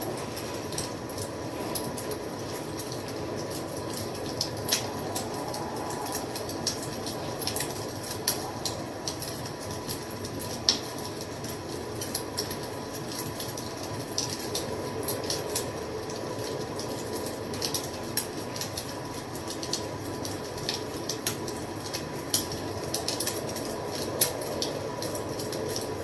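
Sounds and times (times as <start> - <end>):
flames rushing: 0.0 - 26.0
wood fire crackling: 0.0 - 26.0.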